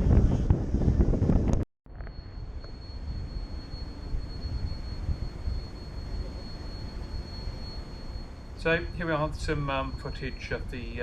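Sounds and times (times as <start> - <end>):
high-pitched whine: 0.0 - 11.0
low steady rumbling: 0.0 - 11.0.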